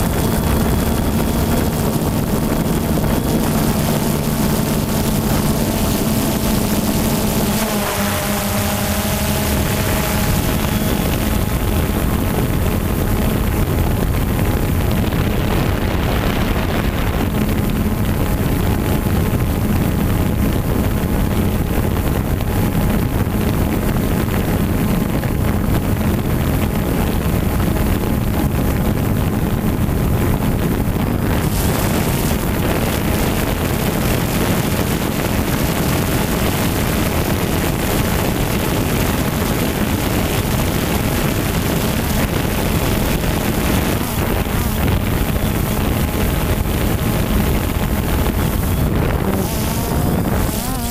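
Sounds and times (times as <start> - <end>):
drone propellers whirring: 0.0 - 50.9
wind across microphone: 0.0 - 50.9.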